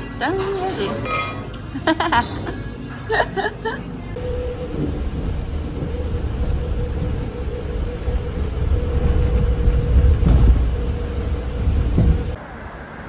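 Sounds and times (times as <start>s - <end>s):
constant hum: 0.0s - 13.0s
vehicle ride rumble: 0.0s - 13.0s.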